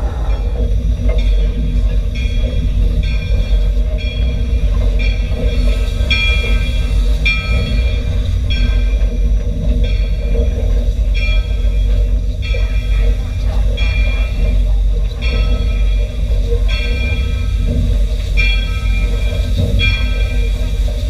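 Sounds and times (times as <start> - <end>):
locomotive bell ringing: 0.0 - 21.0
steam locomotive rumbling: 0.0 - 21.0.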